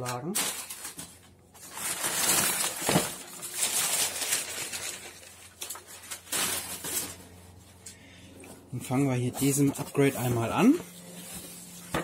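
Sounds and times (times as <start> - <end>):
packaging rustling and crinkling: 0.0 - 7.8, 9.2 - 12.0.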